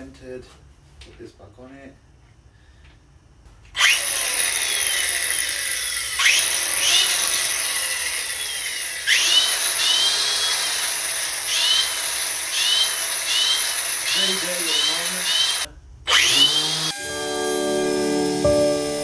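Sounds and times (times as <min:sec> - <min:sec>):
angle grinder whining: 0:03.7 - 0:19.0.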